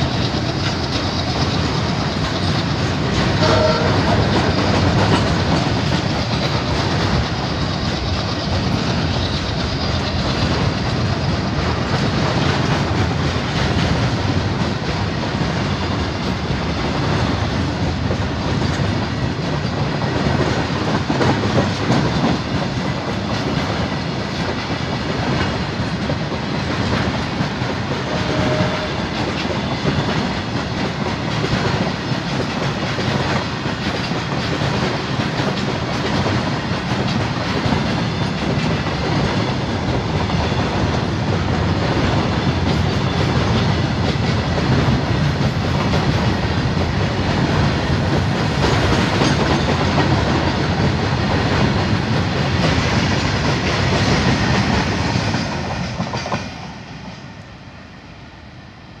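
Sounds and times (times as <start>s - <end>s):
train wheels rolling over track: 0.0s - 58.4s.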